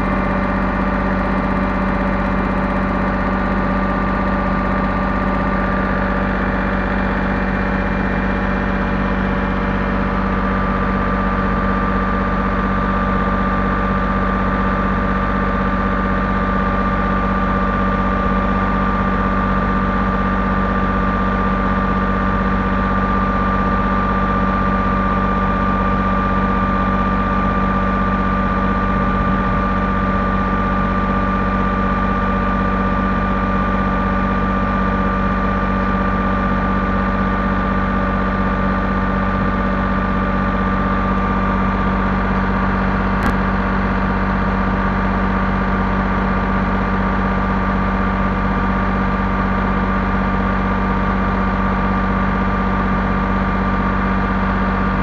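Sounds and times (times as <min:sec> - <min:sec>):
bulldozer engine running: 0:00.0 - 0:55.0.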